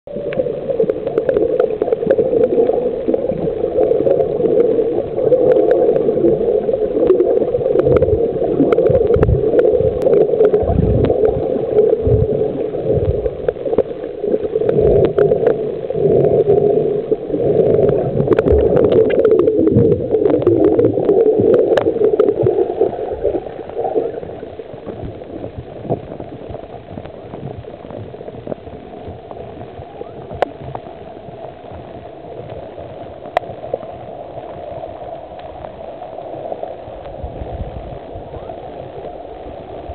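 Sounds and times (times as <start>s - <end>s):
muffled underwater noise: 0.1s - 39.9s.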